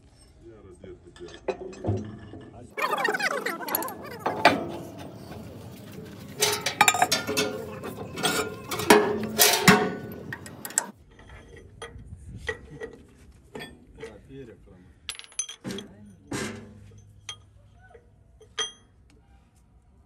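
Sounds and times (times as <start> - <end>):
hand tools clicking and clanking on steel: 1.0 - 14.2, 15.1 - 19.1.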